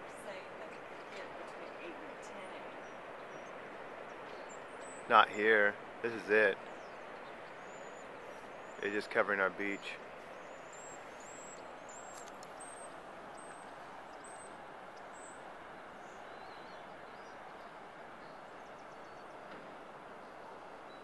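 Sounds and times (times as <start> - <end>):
distant ocean surf: 0.0 - 21.0.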